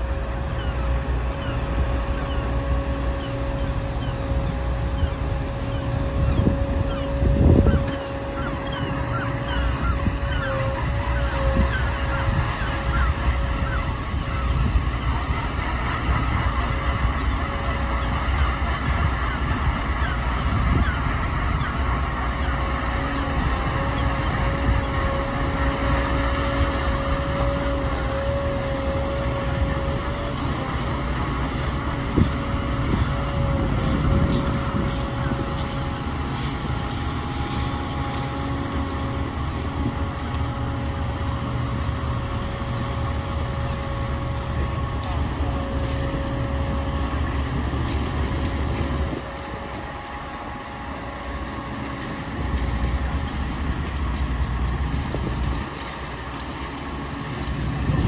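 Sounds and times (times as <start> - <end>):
diesel tractor engine droning: 0.0 - 58.0
tracks driving across shingle: 0.0 - 58.0.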